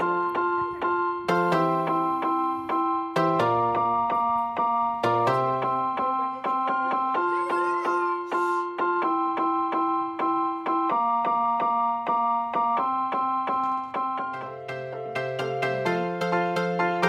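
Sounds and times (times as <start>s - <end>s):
keyboard playing repeated chords: 0.0s - 17.0s.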